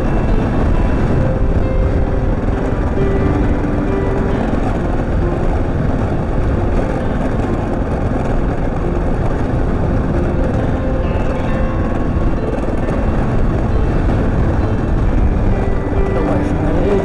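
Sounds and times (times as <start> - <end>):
heavy even rumble: 0.0 - 17.0.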